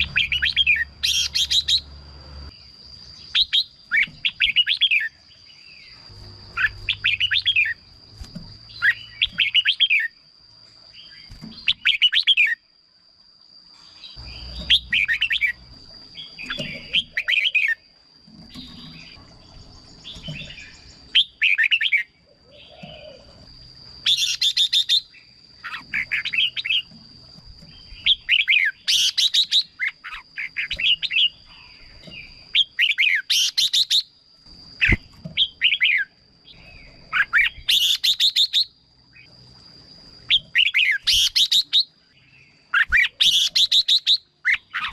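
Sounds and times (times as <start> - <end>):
bird singing warbled phrases: 0.0 - 10.3, 10.9 - 12.7, 13.9 - 17.9, 18.5 - 23.4, 24.0 - 27.0, 27.6 - 39.4, 40.2 - 44.9.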